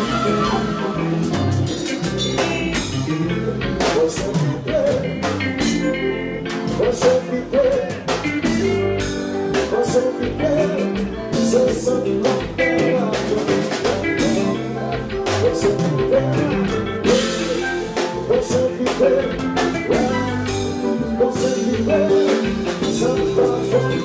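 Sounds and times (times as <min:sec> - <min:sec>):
drum hits: 0:00.0 - 0:20.8
band playing through pa: 0:00.0 - 0:24.0
man singing: 0:00.0 - 0:24.0.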